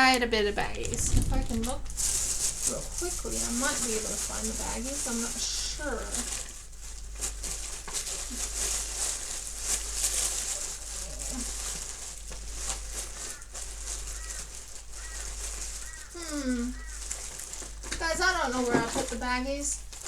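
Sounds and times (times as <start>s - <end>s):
packaging rustling: 0.0s - 20.0s.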